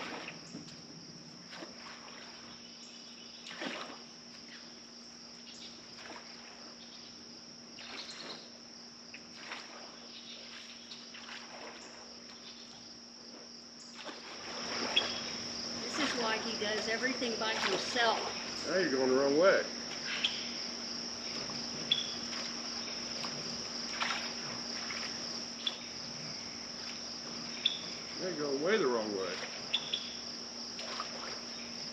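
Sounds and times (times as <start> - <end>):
paddle splashing in water: 0.0 - 4.6, 5.8 - 7.0, 7.8 - 8.6, 9.2 - 18.8, 19.4 - 31.9
insects chirring: 0.0 - 31.9.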